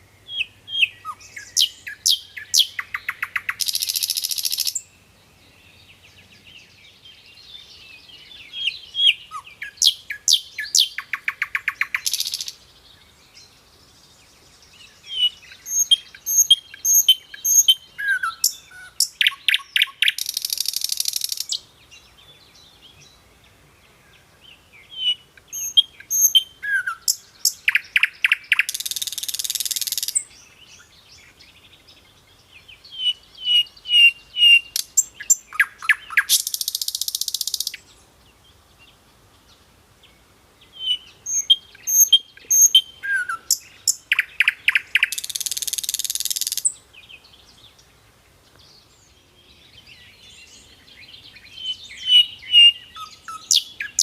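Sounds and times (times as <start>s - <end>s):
nightingale singing: 0.0s - 54.0s.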